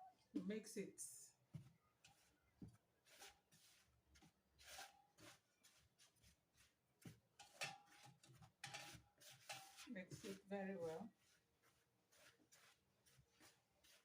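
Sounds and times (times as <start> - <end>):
powder stirred in a bowl: 1.4 - 14.0.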